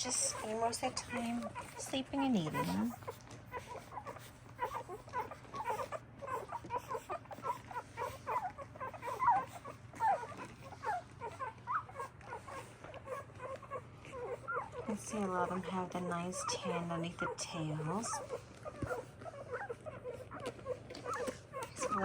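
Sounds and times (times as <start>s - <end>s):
puppies squeaking and whimpering: 0.0s - 22.0s.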